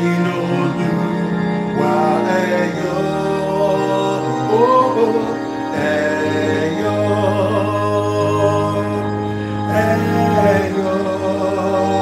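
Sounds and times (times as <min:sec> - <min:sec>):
electronic keyboard chords: 0:00.0 - 0:12.0
man singing: 0:00.0 - 0:12.0.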